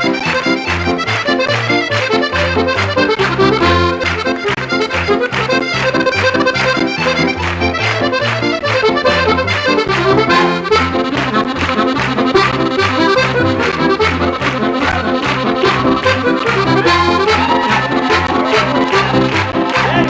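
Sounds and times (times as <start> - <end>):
accordion and fiddle reel: 0.0 - 20.0.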